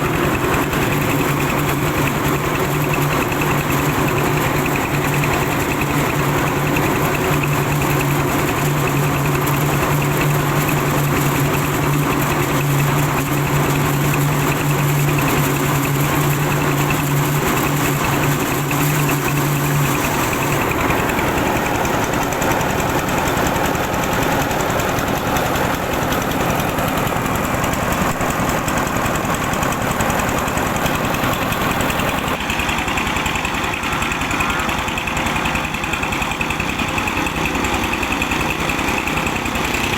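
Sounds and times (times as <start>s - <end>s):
milling machine rattle: 0.0s - 39.9s
old car engine running: 0.0s - 39.9s.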